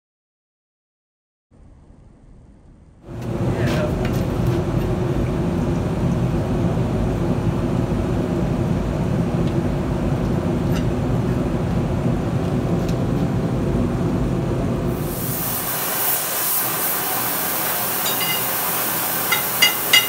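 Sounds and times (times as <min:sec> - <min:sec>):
gas flame roaring: 0:01.6 - 0:20.0.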